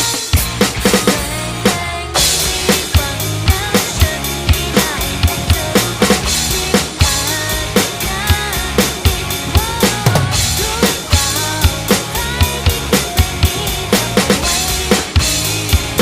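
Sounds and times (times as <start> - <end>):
acoustic drum kit: 0.0 - 16.0
pop-rock song: 0.0 - 16.0.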